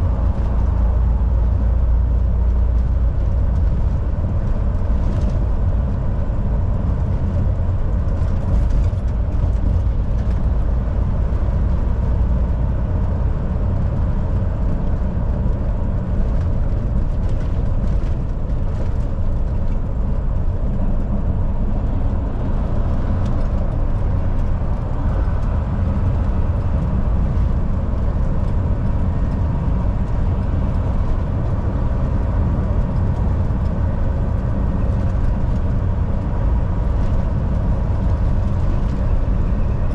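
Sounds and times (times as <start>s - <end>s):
diesel truck engine drone: 0.0s - 39.9s
tyre and road noise: 0.0s - 39.9s.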